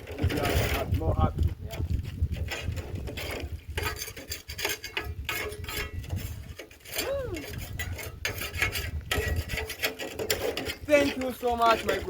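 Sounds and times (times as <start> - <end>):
rubbing and scraping: 0.0 - 12.0.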